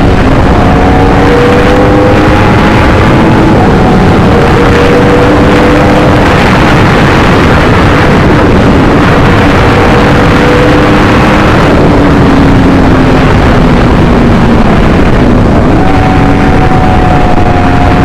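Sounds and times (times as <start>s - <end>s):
motorcycle engine cruising: 0.0s - 18.0s
road and wind rush: 0.0s - 18.0s.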